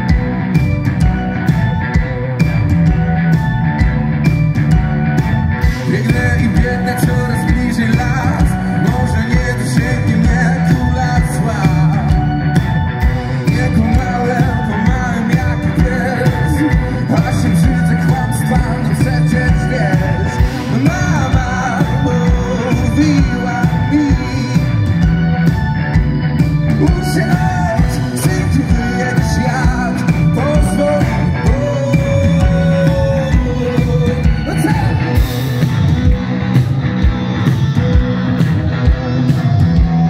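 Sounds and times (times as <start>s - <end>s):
live rock band: 0.0s - 40.0s.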